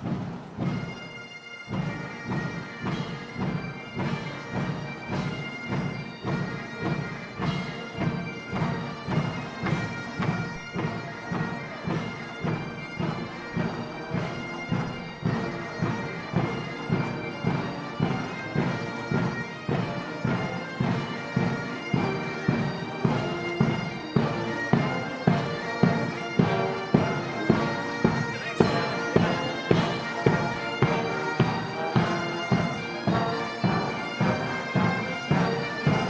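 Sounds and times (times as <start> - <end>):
bagpipes playing a march: 0.0 - 36.0
drum beat: 1.7 - 36.0.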